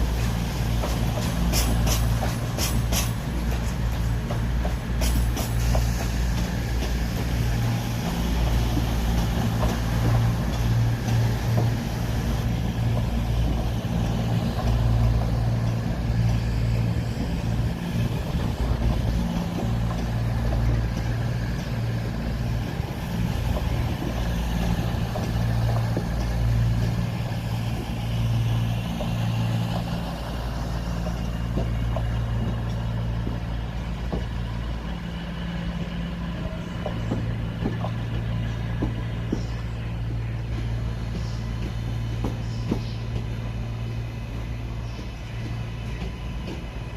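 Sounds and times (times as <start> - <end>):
train engine idling: 0.0 - 46.9.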